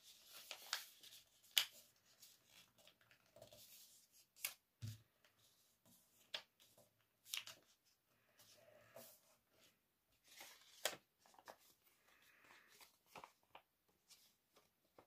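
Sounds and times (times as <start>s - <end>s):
paper crinkling and rustling: 0.0s - 4.6s, 5.3s - 15.0s.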